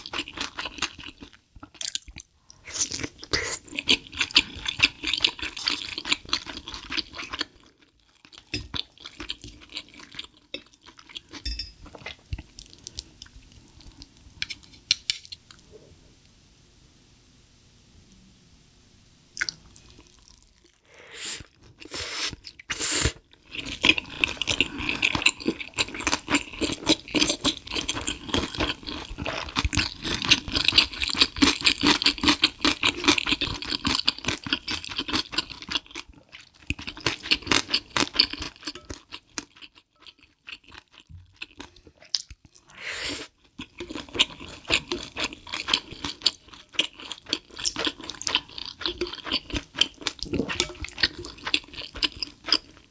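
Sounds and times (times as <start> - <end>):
crunchy chewing of food: 0.0 - 15.7, 23.3 - 52.9.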